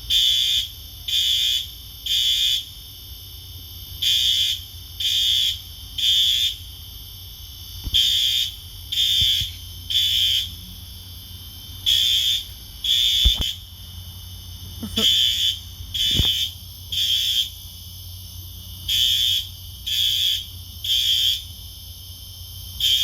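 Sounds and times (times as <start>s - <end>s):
fire alarm high-pitched beeps: 0.1s - 2.8s, 3.6s - 10.7s, 11.7s - 13.7s, 14.3s - 21.6s, 22.8s - 23.0s.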